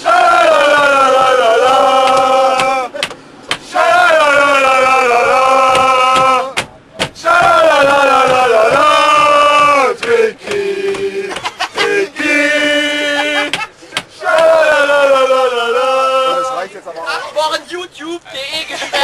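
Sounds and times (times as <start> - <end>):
men chanting: 0.0 - 17.4
men shouting: 0.0 - 17.6.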